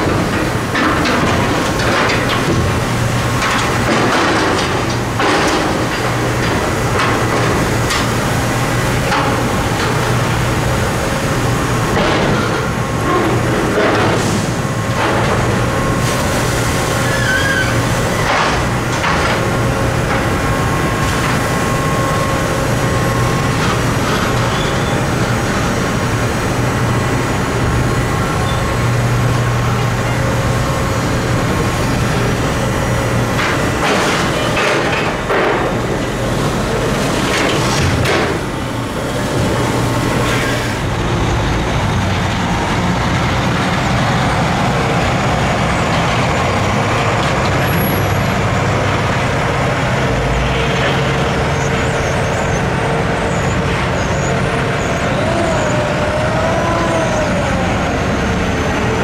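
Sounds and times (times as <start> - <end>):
machinery din: 0.0 - 59.0.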